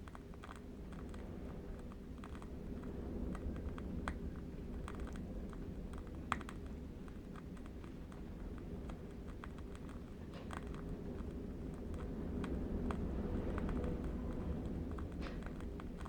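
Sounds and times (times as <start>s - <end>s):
low wind rumble: 0.0s - 16.0s.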